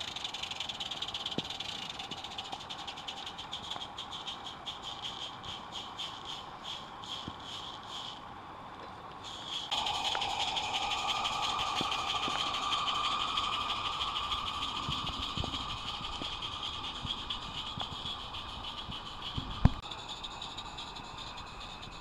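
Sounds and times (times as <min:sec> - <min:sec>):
wheels clicking on track: 0:00.0 - 0:08.2, 0:08.8 - 0:22.0
steam hissing: 0:00.0 - 0:08.4, 0:09.1 - 0:22.0
steam locomotive exhaust beats: 0:00.0 - 0:08.4, 0:09.1 - 0:22.0.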